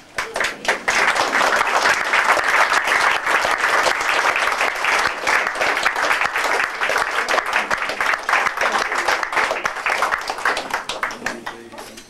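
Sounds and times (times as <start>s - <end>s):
crowd applauding: 0.0s - 11.8s.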